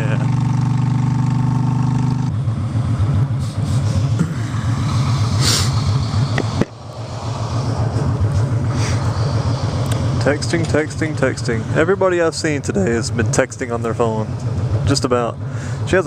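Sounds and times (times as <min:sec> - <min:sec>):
motorcycle engine pulsing: 0:00.0 - 0:16.0.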